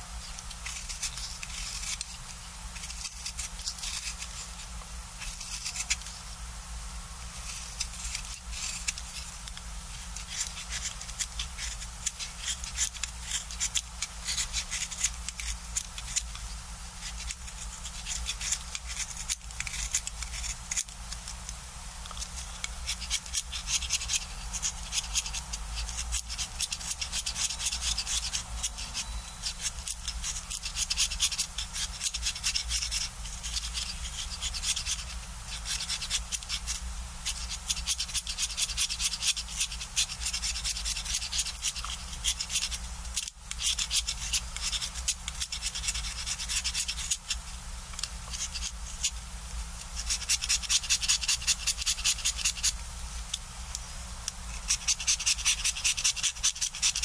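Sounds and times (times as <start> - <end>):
knife scraping pencil wood: 0.2 - 4.6, 5.2 - 6.2, 7.3 - 16.4, 17.0 - 49.2, 49.8 - 52.8, 54.5 - 57.0.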